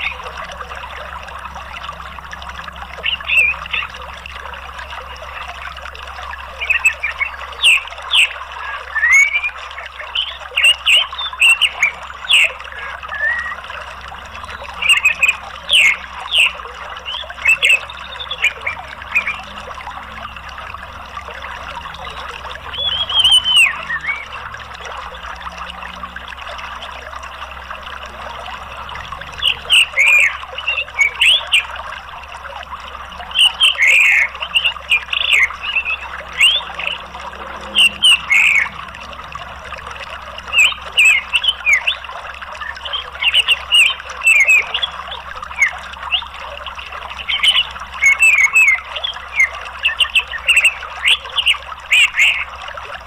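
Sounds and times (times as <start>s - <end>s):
flowing water: 0.0s - 53.0s
thrush singing: 6.4s - 52.5s.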